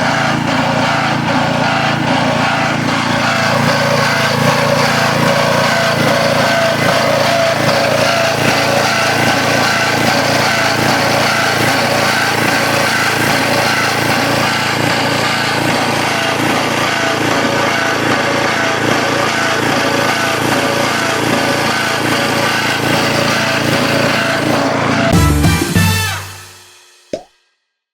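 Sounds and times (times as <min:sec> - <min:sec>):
machine engine running: 0:00.0 - 0:26.3.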